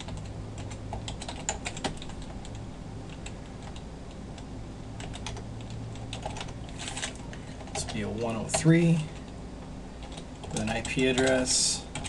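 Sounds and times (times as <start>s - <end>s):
keyboard typing clicks: 0.0s - 9.4s, 10.0s - 12.0s
low steady hum: 0.0s - 12.0s.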